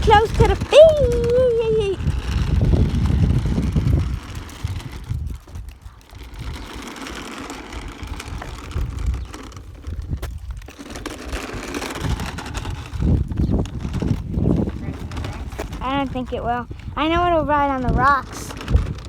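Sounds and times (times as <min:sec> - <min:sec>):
toy car electric motor running: 0:00.0 - 0:19.0.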